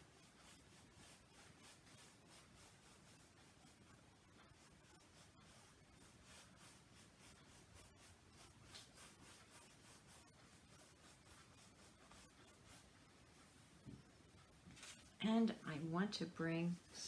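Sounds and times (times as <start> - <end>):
paintbrush strokes on canvas: 0.0 - 17.0.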